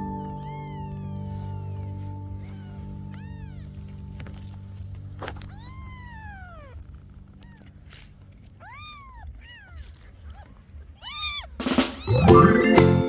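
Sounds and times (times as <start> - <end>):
kitten meowing: 0.1 - 4.4, 5.4 - 8.0, 8.6 - 12.4.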